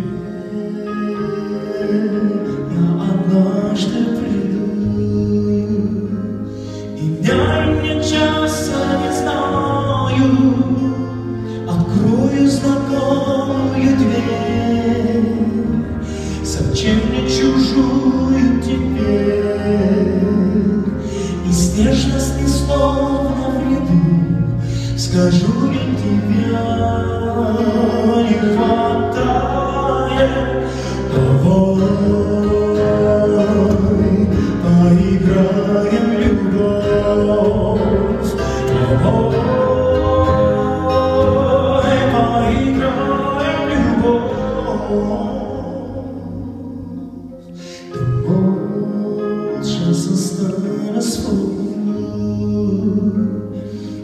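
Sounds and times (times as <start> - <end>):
acoustic guitar: 0.0 - 54.0
electric keyboard: 0.0 - 54.0
person singing: 0.0 - 54.0.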